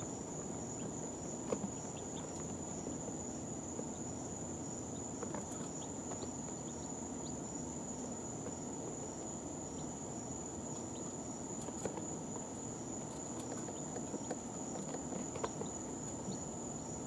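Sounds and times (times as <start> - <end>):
chicks peeping: 0.0 - 17.0
low background hum: 0.0 - 17.0.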